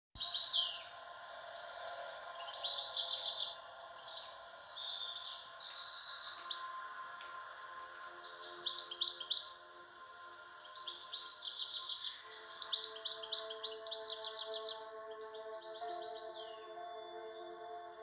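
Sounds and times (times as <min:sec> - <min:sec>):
birds chirping and trilling: 0:00.2 - 0:18.0.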